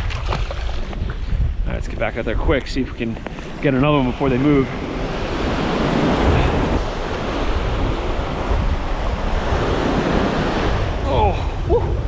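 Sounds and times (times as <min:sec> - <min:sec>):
wind noise on microphone: 0:00.0 - 0:12.0
ocean surf breaking: 0:02.0 - 0:12.0.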